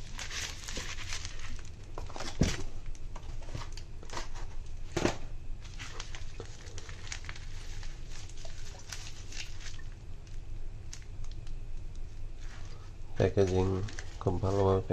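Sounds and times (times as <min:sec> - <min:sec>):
bubble wrap crinkling: 0:00.0 - 0:14.9.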